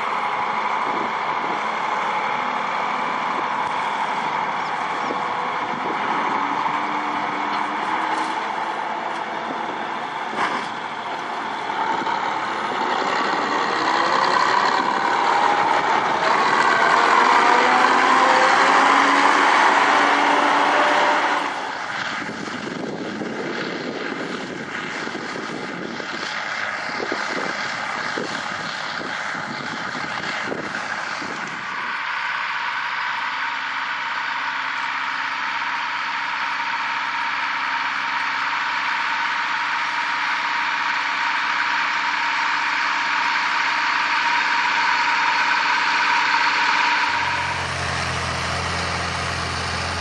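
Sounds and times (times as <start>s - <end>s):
heavy vehicle engine running: 0.0s - 50.0s.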